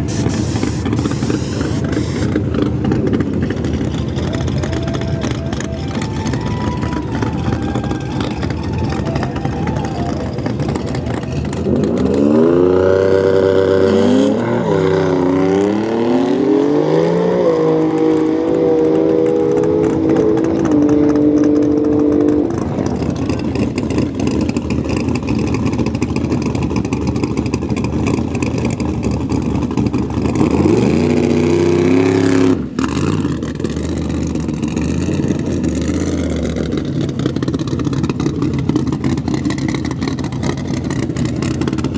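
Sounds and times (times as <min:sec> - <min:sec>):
drag racing car accelerating: 0:00.0 - 0:41.9
second engine revving: 0:00.0 - 0:41.9.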